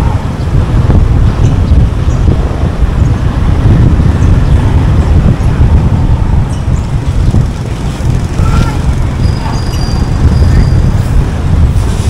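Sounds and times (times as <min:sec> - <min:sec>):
car road and wind noise: 0:00.0 - 0:12.0
passing traffic: 0:00.0 - 0:12.0.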